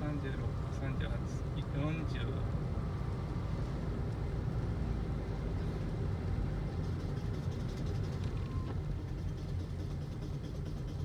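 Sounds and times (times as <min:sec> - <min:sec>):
road rumble inside car: 0:00.0 - 0:11.0.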